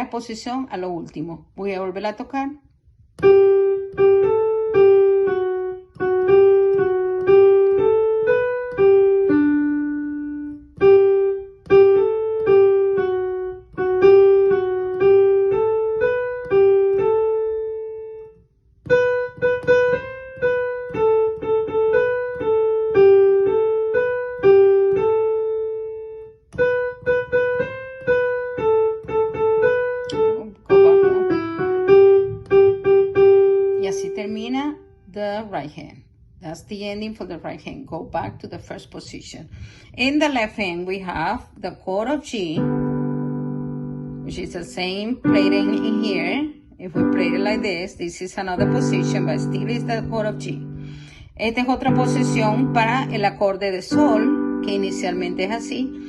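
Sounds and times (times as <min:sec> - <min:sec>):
piano melody: 0:03.0 - 0:35.2, 0:42.2 - 0:56.0.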